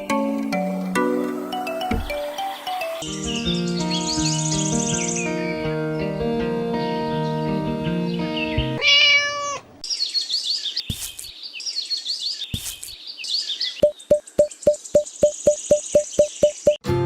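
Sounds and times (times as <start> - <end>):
small birds chirping: 0.0 - 6.2, 6.8 - 16.8.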